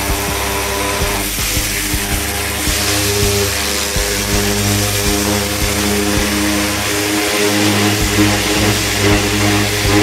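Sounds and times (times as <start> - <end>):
pressure washer motor hum: 0.0 - 10.0
water jet spraying on metal: 0.0 - 10.0.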